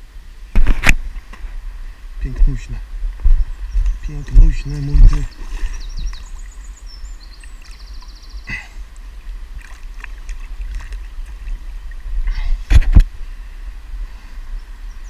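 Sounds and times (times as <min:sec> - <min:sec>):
river water trickling and gurgling: 0:02.9 - 0:15.0.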